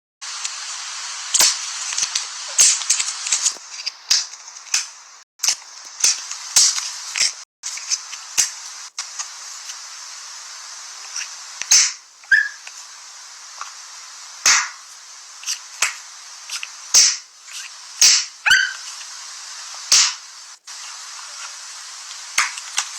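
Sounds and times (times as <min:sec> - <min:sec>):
steady hiss: 0:00.2 - 0:22.9.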